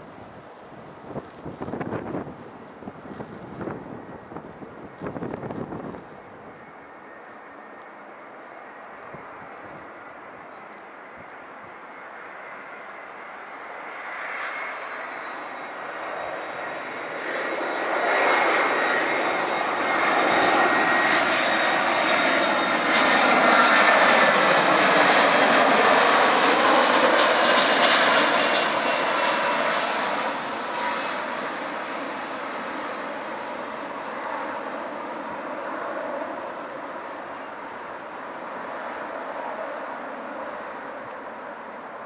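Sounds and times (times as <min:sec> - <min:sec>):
jet engines of landing airliner: 0:00.0 - 0:42.0.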